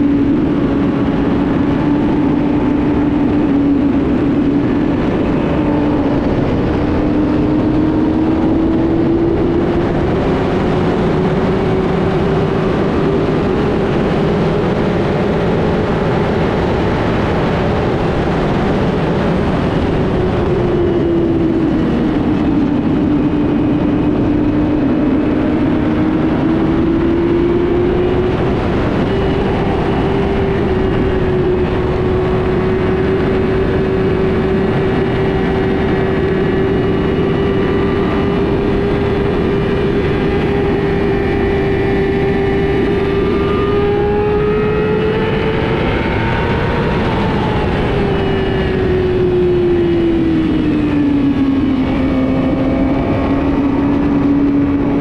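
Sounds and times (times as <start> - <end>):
faint motorcycle engines: 0.0 - 55.0
motorcycle engine drone: 0.0 - 55.0.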